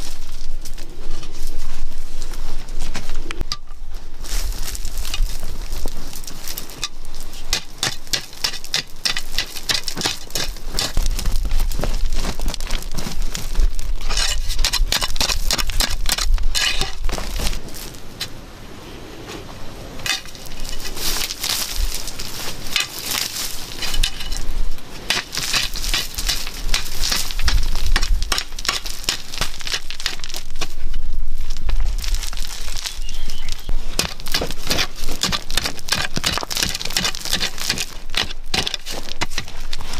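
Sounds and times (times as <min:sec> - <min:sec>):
trickling gravel: 0:03.9 - 0:18.2, 0:20.0 - 0:39.9
tool scraping into soil and stones: 0:04.2 - 0:18.0, 0:19.4 - 0:31.0, 0:32.0 - 0:39.9.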